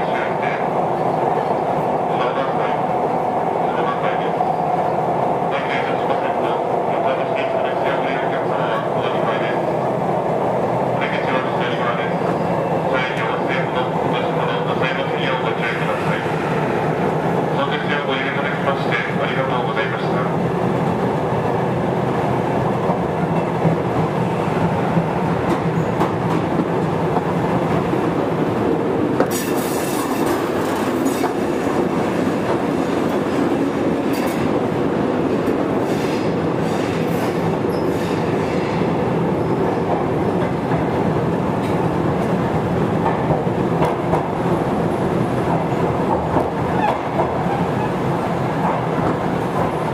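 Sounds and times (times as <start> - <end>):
train running at speed: 0.0 - 49.9.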